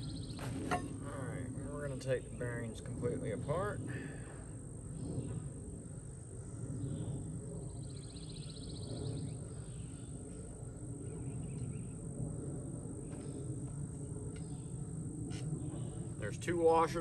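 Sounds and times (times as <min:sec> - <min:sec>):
high insect drone: 0:00.0 - 0:17.0
low background rumble: 0:00.0 - 0:17.0.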